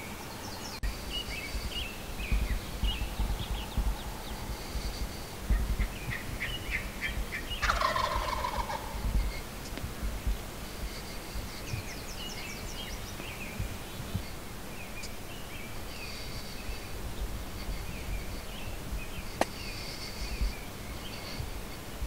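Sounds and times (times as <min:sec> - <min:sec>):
low outdoor rumble: 0:00.0 - 0:22.0
songbirds singing: 0:00.0 - 0:22.0.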